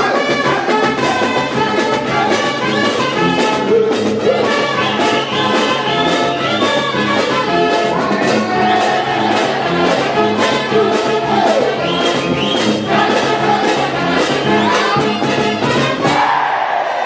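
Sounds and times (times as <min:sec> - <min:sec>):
steady drum beat: 0:00.0 - 0:16.4
brass band playing dance music: 0:00.0 - 0:17.0.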